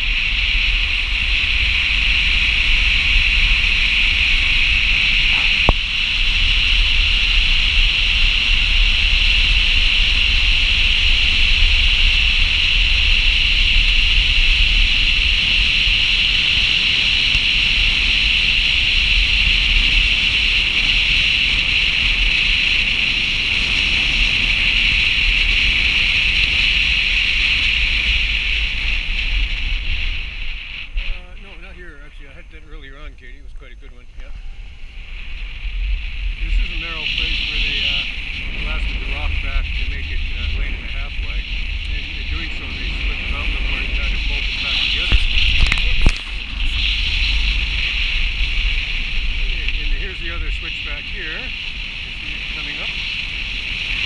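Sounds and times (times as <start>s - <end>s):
low rumble: 0.0s - 54.0s
wind and road noise: 0.0s - 54.0s.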